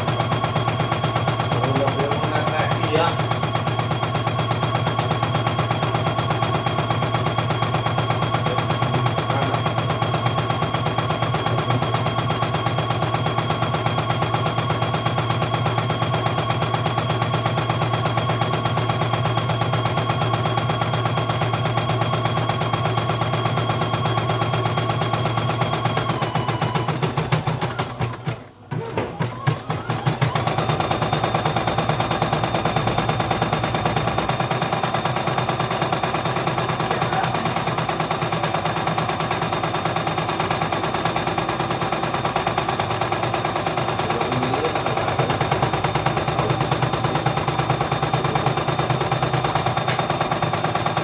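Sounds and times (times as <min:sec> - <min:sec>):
embroidery machine needle rattle: 0:00.0 - 0:28.5, 0:29.2 - 0:51.0
motor hum: 0:00.0 - 0:51.0.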